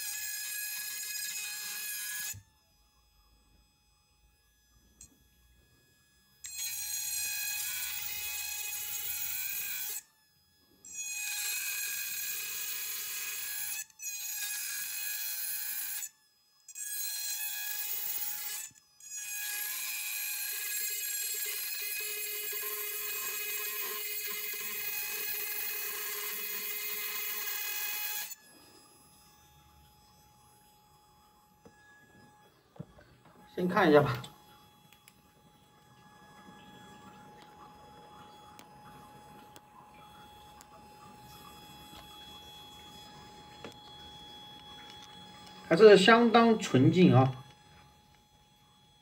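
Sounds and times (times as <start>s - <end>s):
rotary grinder whining: 0.0s - 49.0s.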